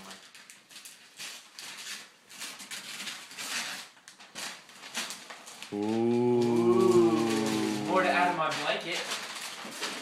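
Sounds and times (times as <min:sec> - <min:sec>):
wrapping paper rustling: 0:00.0 - 0:10.0.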